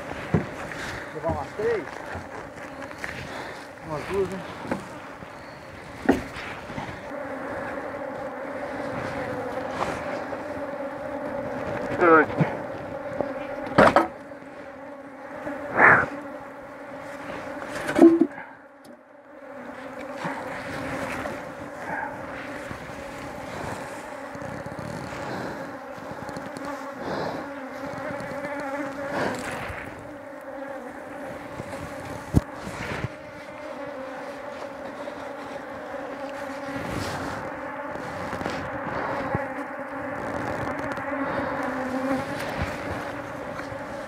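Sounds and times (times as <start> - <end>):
honey bees buzzing: 0.0 - 44.0.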